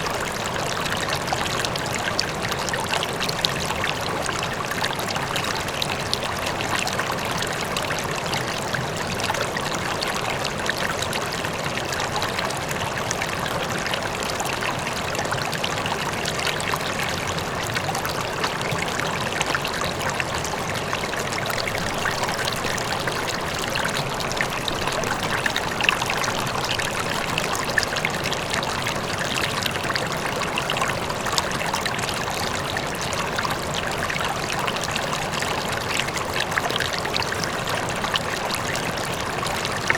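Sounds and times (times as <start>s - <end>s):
faint waterfall: 0.0s - 39.9s
river water splashing over rocks: 0.0s - 39.9s.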